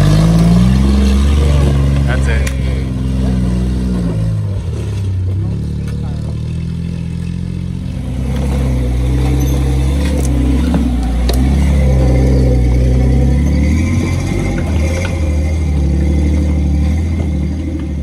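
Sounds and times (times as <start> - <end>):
jeep engine under load: 0.0 - 18.0.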